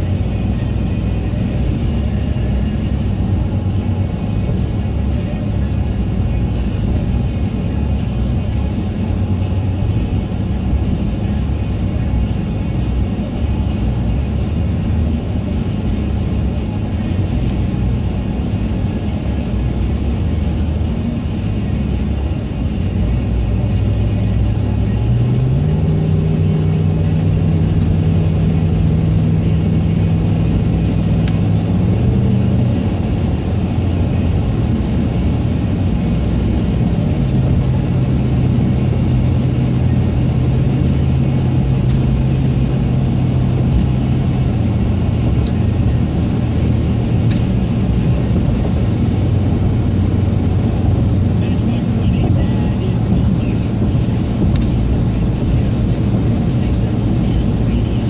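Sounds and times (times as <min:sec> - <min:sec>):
car road noise rumble: 0:00.0 - 0:58.0
low engine drone: 0:00.0 - 0:58.0.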